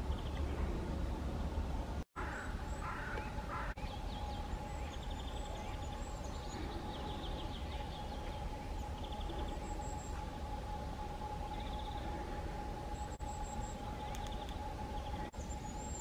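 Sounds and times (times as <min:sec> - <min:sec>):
songbirds trilling: 0:00.0 - 0:01.5, 0:02.2 - 0:16.0
faint steady hum: 0:00.0 - 0:16.0
steady low rumble: 0:00.0 - 0:16.0
soft bird chirps: 0:02.3 - 0:10.5, 0:11.1 - 0:16.0.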